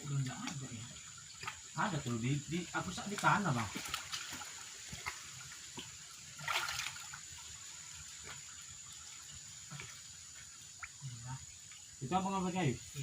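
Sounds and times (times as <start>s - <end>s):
muddy water sloshing: 0.0s - 12.0s
water splashes: 0.0s - 13.0s.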